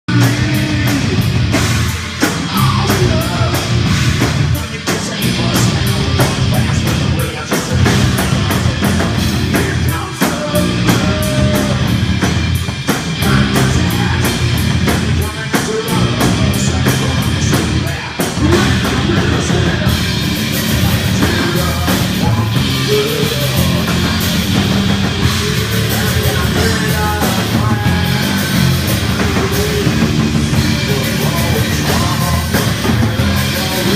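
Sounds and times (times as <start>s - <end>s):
drum kit: 0.0s - 33.9s
rock band playing live: 0.0s - 33.9s
sung vocals: 0.0s - 33.9s.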